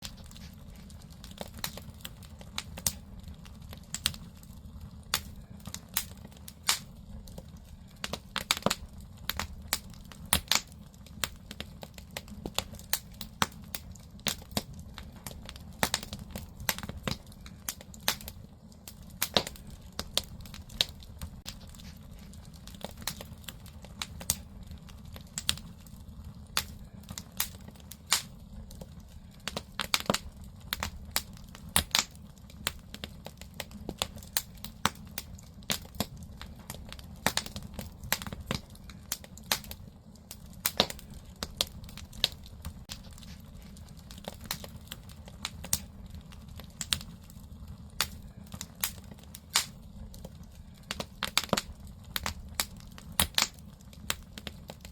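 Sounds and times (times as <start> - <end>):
firewood crackling and popping: 0.0 - 54.9
low rumble of fire: 0.0 - 54.9.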